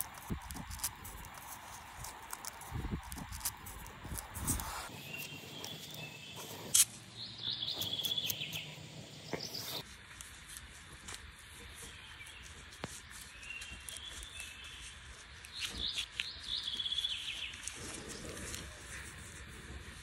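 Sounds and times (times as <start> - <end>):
small birds calling: 0.0 - 9.8, 11.6 - 18.4.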